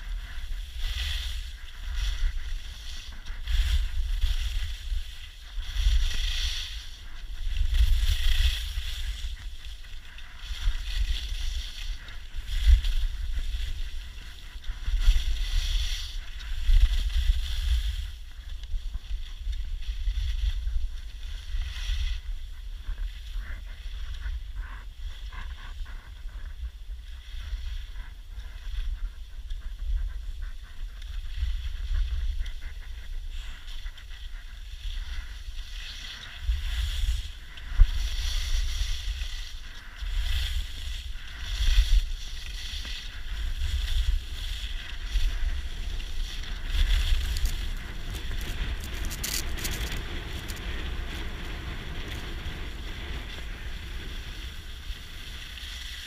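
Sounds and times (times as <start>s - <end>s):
skis scraping on hard snow: 0.0s - 24.4s, 31.0s - 56.0s
wind buffeting microphone: 0.0s - 56.0s.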